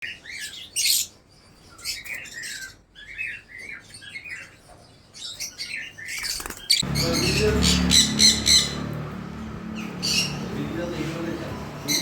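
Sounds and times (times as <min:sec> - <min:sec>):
parrots chirping: 0:00.1 - 0:12.0.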